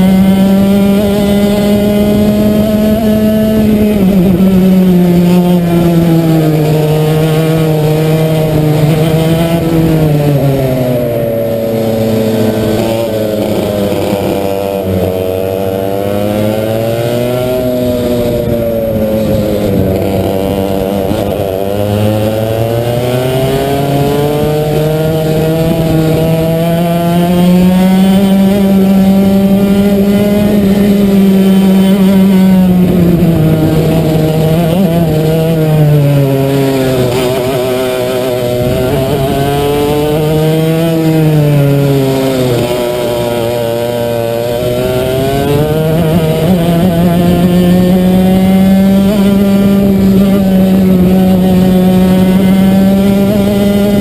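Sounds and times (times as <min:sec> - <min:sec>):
racing kart engine: 0:00.0 - 0:54.0.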